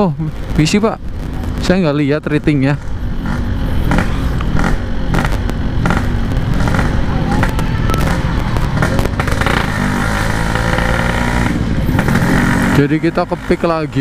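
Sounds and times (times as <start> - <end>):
exhaust pops and crackles: 0.0 - 14.0
two-stroke motorcycle engine: 0.0 - 14.0.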